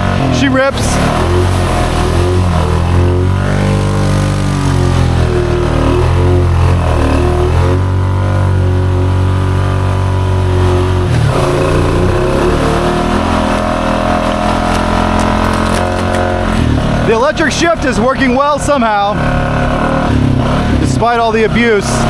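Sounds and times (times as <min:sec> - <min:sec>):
atv engine under throttle: 0:00.0 - 0:22.0.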